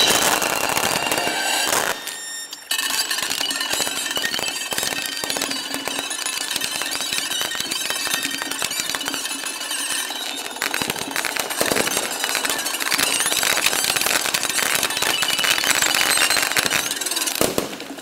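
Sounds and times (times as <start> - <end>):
fireworks popping and crackling: 0.0 - 18.0.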